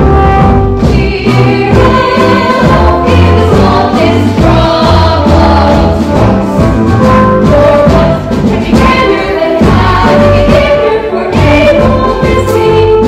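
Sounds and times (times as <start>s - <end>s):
band accompaniment with bass: 0.0s - 13.0s
chorus of voices singing: 0.3s - 13.0s.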